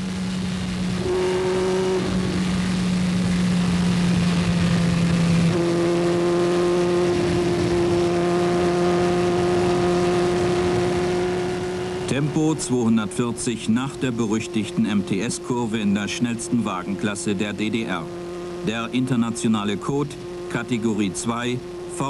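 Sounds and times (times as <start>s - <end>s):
racing engine running hard: 0.0s - 22.0s.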